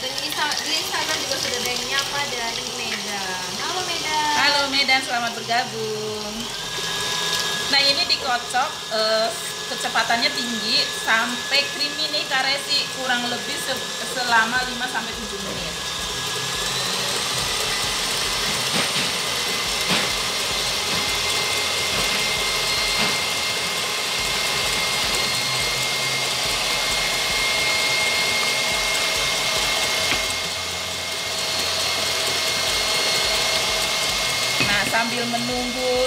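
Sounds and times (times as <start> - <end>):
stand mixer motor whine: 0.0 - 36.0.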